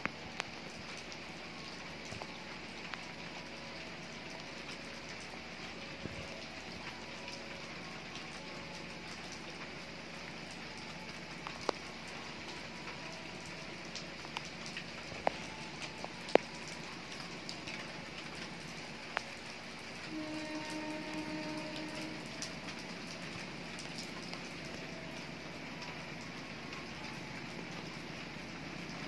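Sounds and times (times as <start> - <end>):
heavy rain falling: 0.0 - 29.0
raindrop ticks: 0.0 - 29.0.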